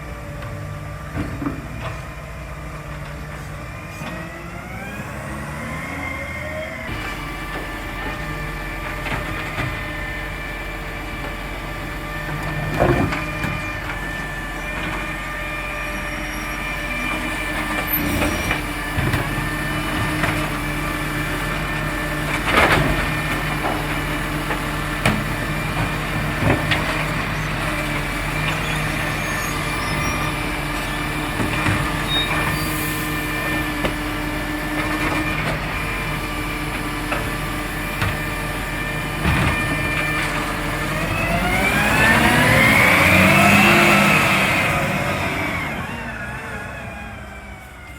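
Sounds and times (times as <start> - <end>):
garbage truck running: 0.0 - 47.9.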